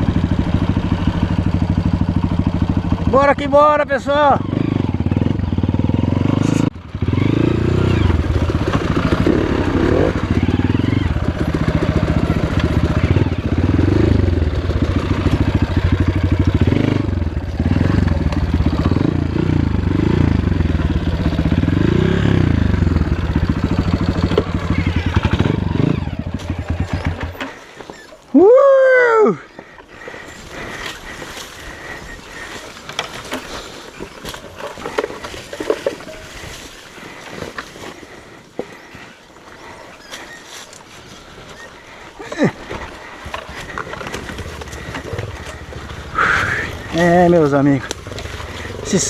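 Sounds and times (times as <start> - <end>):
motorcycle engine revving: 0.0 - 28.2, 28.8 - 49.0.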